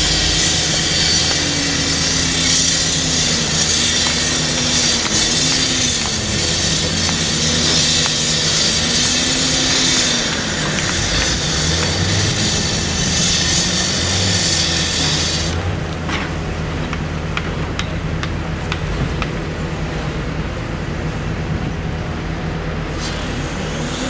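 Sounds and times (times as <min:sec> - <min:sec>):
excavator diesel engine humming: 0:00.0 - 0:24.0.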